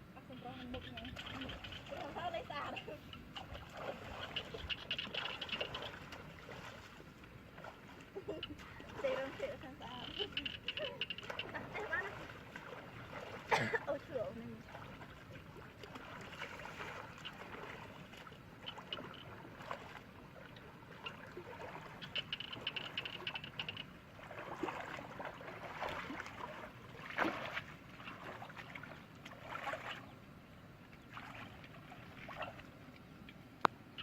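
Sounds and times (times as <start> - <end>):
water sloshing and splashing: 0.1 - 34.0.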